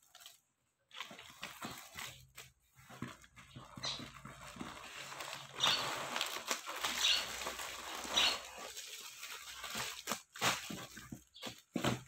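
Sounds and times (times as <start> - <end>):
plastic and cardboard rustling: 0.0 - 12.0.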